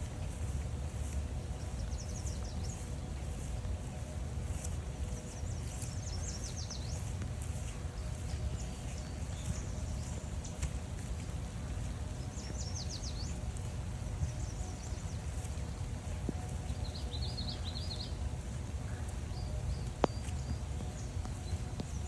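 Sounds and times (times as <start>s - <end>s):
songbirds singing: 0.0s - 22.0s
steady low rumble: 0.0s - 22.0s.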